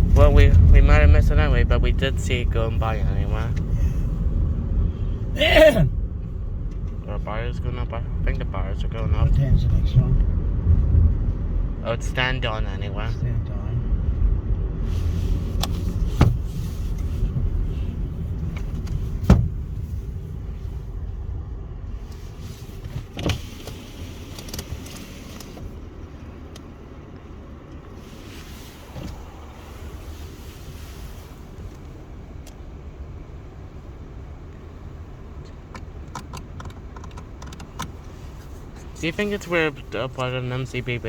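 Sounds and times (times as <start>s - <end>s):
car engine rumble: 0.0s - 41.0s.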